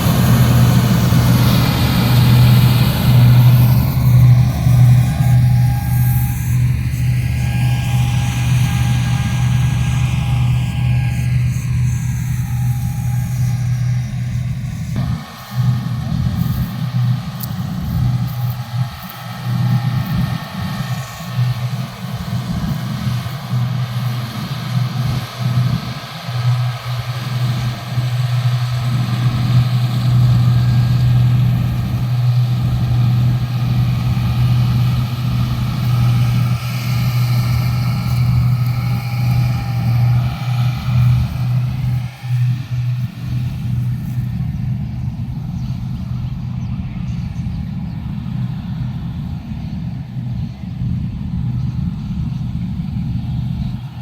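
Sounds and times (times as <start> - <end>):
mechanical rush: 0.0 - 46.1
farm machinery engine humming: 0.0 - 54.0.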